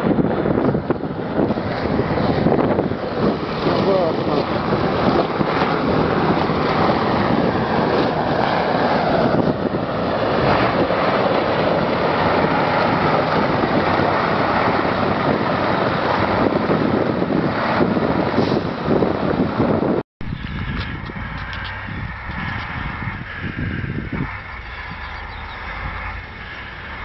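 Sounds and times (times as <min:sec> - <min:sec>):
diesel truck engine running hard: 0:00.0 - 0:27.0
wind buffeting microphone: 0:00.0 - 0:27.0.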